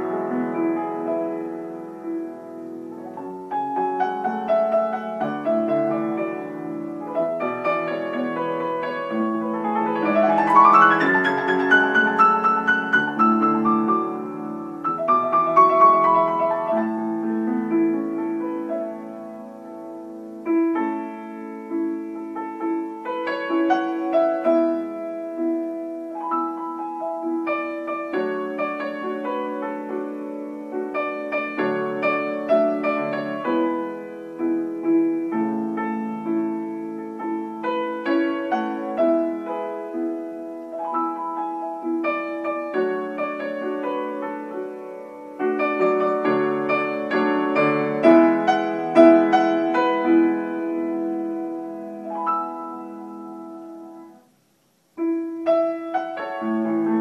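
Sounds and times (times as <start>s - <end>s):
solo piano music: 0.0s - 57.0s.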